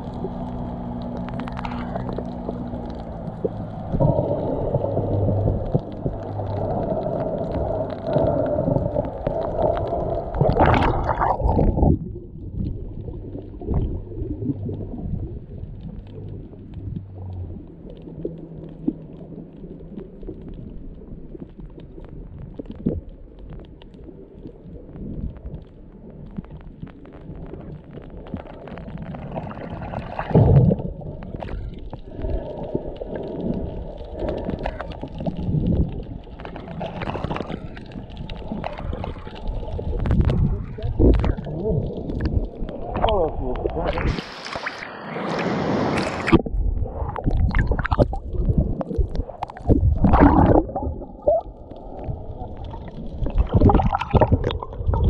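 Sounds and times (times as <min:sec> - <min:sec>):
low steady hum: 0:00.0 - 0:44.5, 0:46.0 - 0:55.0
muffled underwater rumbling: 0:00.0 - 0:55.0
rushes of water: 0:00.0 - 0:55.0
underwater clicks: 0:00.0 - 0:55.0.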